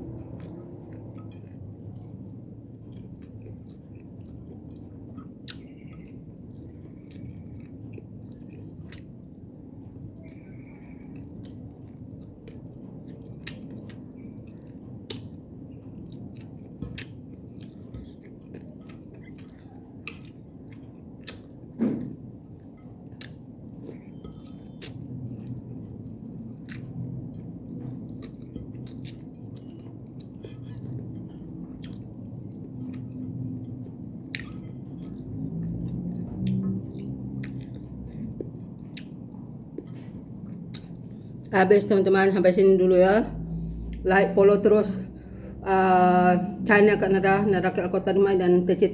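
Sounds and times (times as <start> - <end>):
close-up chewing and crunches: 0.0 - 41.5
steady low hum: 0.0 - 48.9.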